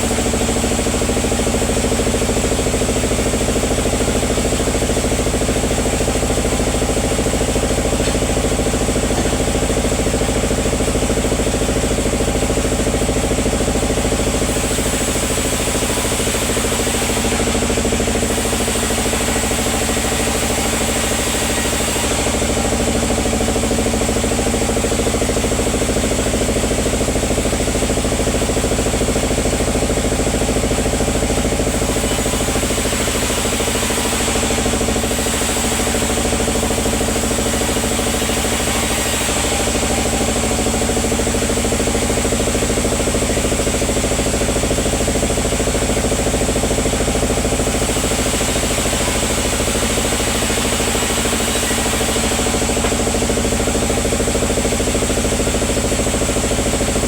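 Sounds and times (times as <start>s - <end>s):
sawmill engine hum: 0.0s - 57.0s.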